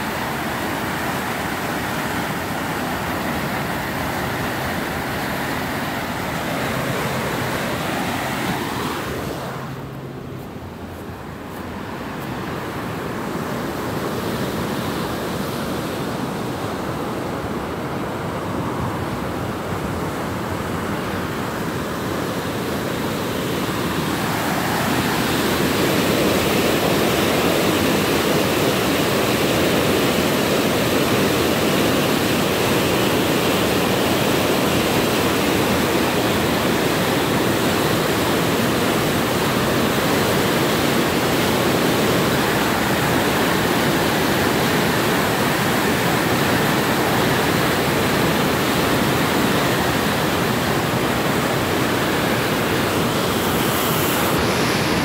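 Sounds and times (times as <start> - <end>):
water rushing below a dam: 0.0 - 55.0.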